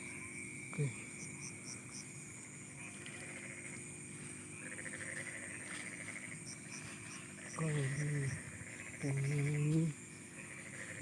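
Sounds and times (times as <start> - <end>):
frogs calling: 0.0 - 11.0
insect trilling: 0.0 - 11.0.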